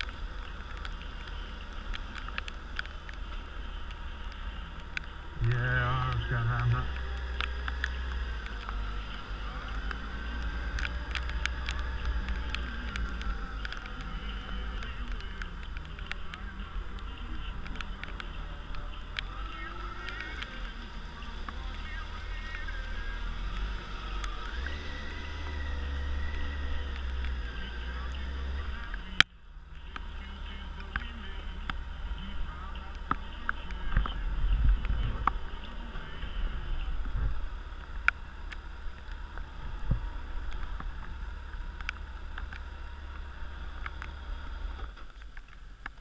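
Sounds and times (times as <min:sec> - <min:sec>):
motorcycle engine low hum: 0:00.0 - 0:46.0.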